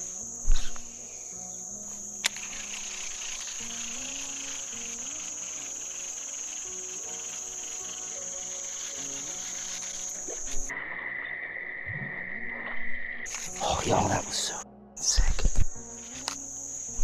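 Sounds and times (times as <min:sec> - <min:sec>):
faint melody: 0:00.0 - 0:11.0, 0:12.0 - 0:17.0
insects shrilling: 0:00.0 - 0:17.0.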